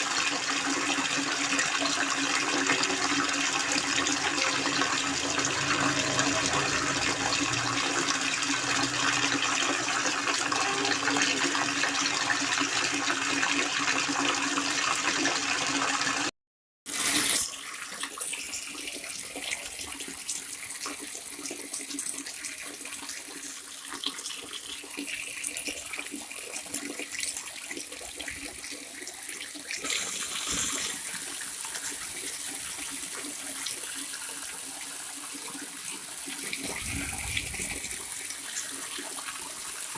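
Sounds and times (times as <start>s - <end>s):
water running and splashing: 0.0s - 16.3s, 16.9s - 39.9s.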